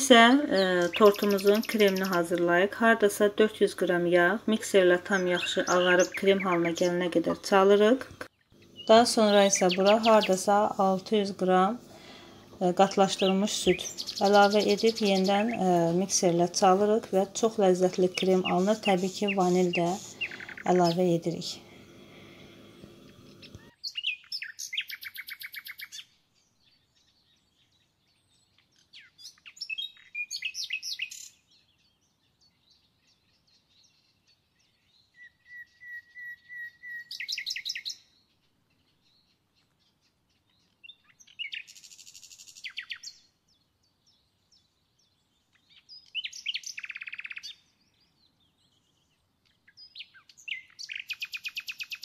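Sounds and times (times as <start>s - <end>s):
songbird trilling and chirping: 0.0s - 52.0s.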